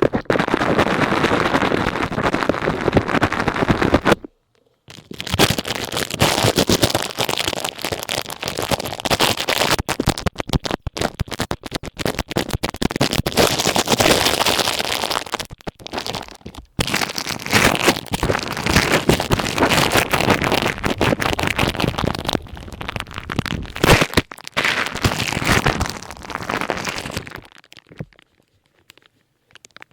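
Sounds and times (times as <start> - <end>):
ear pick scraping plastic: 0.0 - 4.3, 4.9 - 29.9.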